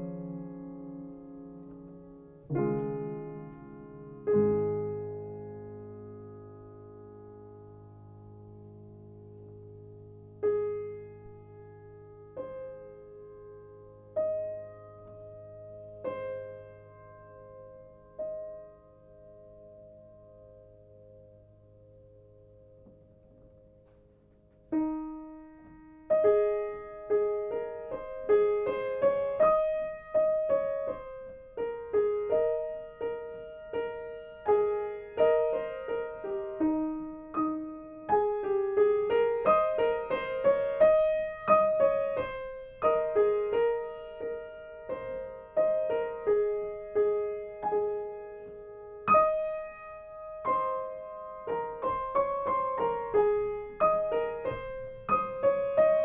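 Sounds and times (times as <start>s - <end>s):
piano melody: 0.0s - 56.0s.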